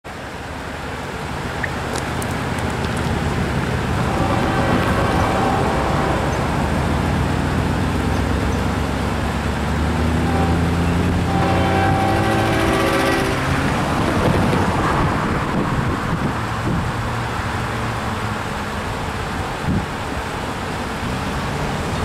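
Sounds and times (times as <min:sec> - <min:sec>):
locomotive engine rumble: 0:00.1 - 0:22.0.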